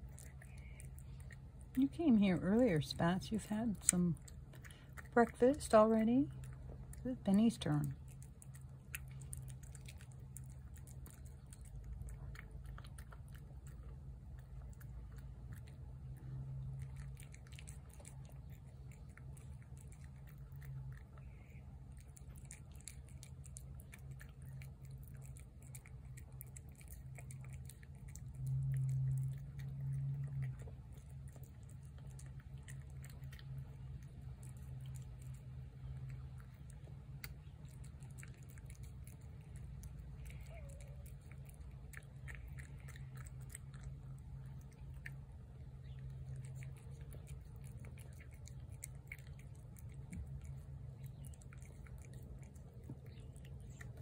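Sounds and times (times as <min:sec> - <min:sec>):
cat chewing food: 0:00.0 - 0:54.0
low hum: 0:00.0 - 0:54.0.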